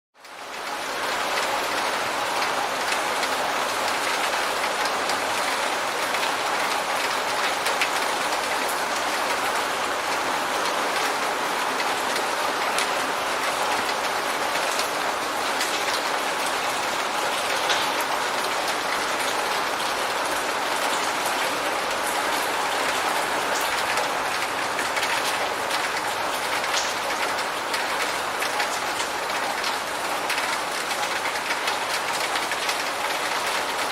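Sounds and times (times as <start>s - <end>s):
heavy rain: 0.2s - 33.9s.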